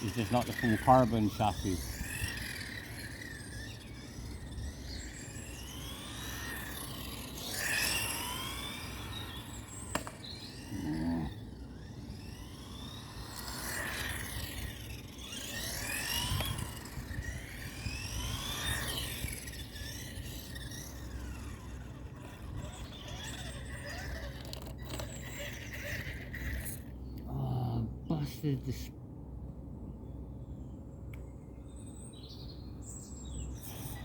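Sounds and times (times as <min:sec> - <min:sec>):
electric toy car motor whining: 0:00.0 - 0:27.0, 0:33.5 - 0:34.0.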